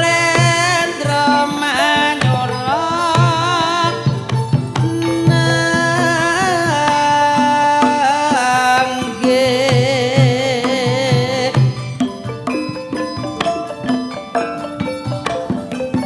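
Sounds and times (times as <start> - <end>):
woman singing wavering notes: 0.0 - 14.6
drum strokes: 0.0 - 16.0
ringing metallophone tones: 0.0 - 16.0.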